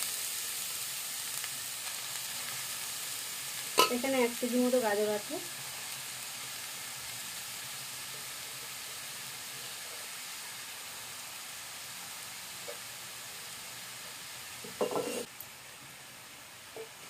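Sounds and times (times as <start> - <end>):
carrots sizzling in fat: 0.0 - 17.0.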